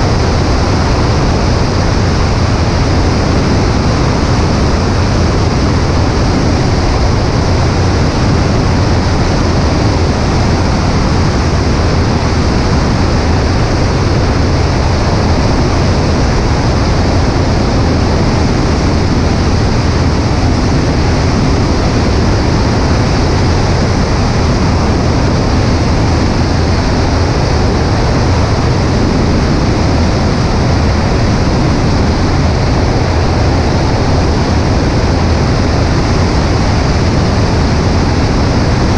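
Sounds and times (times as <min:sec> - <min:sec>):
piston engine and propeller drone: 0:00.0 - 0:38.9
wind rush: 0:00.0 - 0:38.9.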